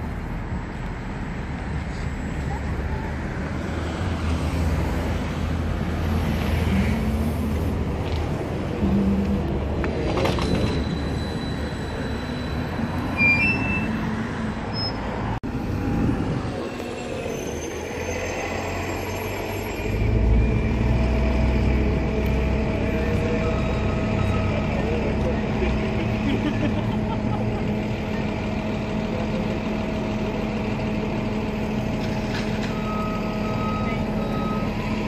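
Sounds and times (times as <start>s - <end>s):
street traffic: 0.0s - 35.0s
trolley bus driving off: 0.0s - 35.0s.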